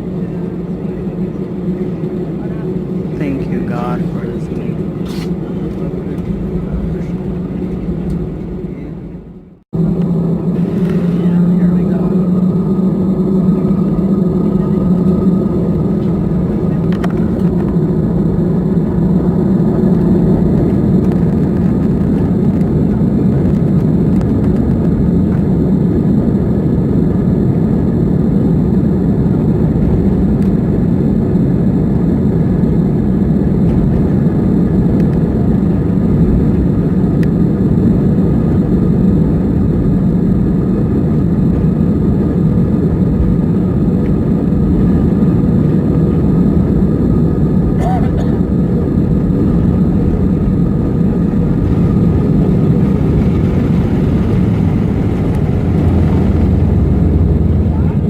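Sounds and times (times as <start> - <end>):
jet engines in cabin: 0.0 - 58.0.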